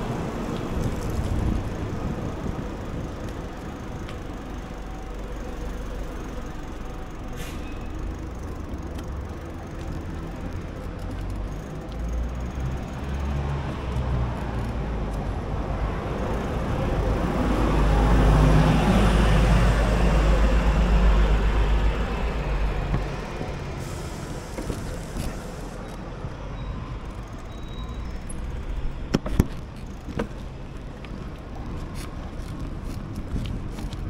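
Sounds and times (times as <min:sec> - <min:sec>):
low street rumble: 0:00.0 - 0:34.0.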